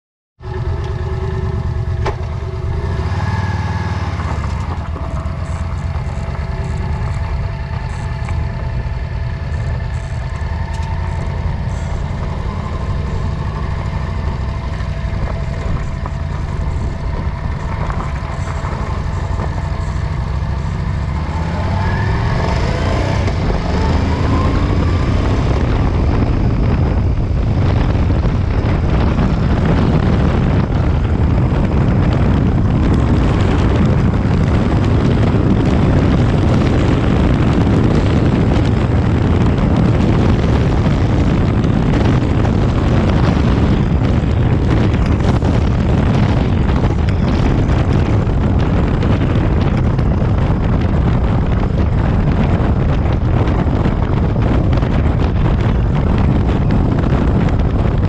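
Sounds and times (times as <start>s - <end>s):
rising whine: 0.4s - 58.0s
vehicle engine rumbling: 0.4s - 58.0s.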